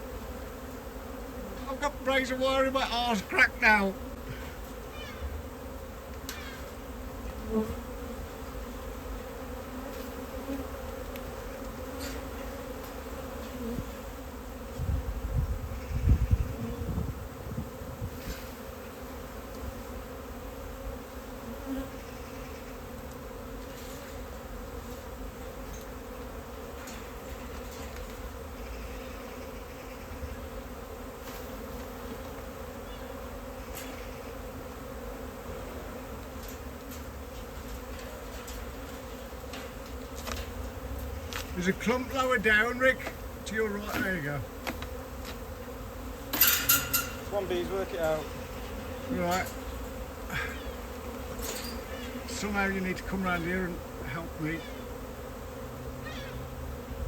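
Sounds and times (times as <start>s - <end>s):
honey bee swarm buzzing: 0.0s - 57.0s.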